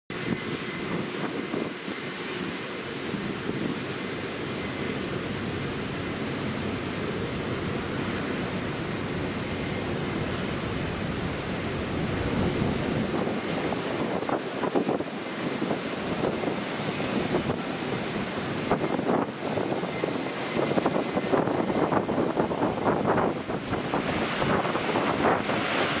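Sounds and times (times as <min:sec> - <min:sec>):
jet engines rushing: 0:00.1 - 0:26.0
wind buffeting microphone: 0:00.1 - 0:26.0.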